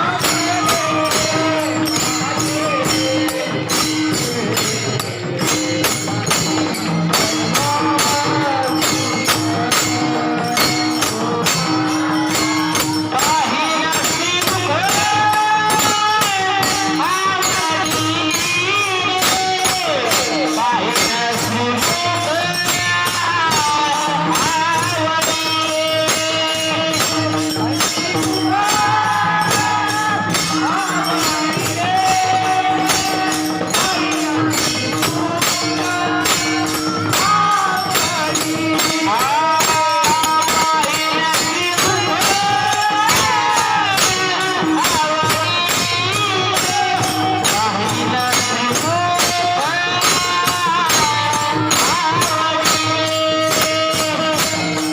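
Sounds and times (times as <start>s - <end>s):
jingling metallic percussion: 0.0s - 54.9s.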